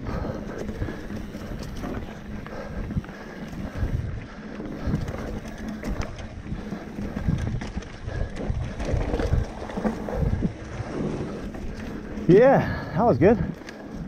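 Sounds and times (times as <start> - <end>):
bike clicks and rattles: 0.0 - 14.0
bike rumbling on dirt trail: 0.0 - 14.0
wind buffeting microphone: 0.0 - 14.0.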